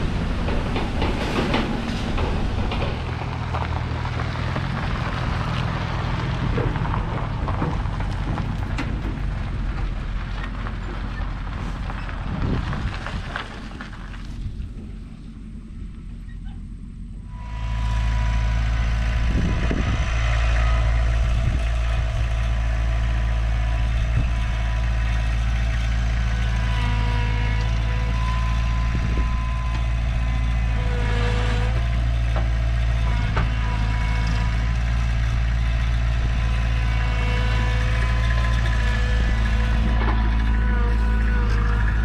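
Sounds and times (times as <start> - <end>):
car engine and road drone: 0.0 - 42.0.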